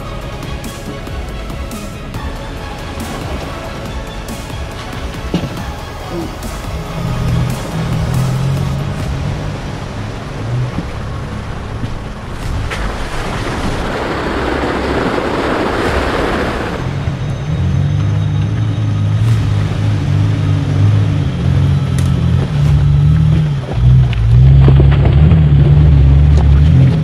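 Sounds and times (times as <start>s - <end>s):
off-road vehicle engine drone: 0.0s - 27.0s
rushing noise: 0.0s - 27.0s.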